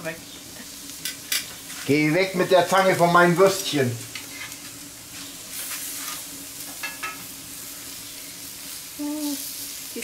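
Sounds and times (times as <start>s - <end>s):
food sizzling on hot plate: 0.0s - 10.0s.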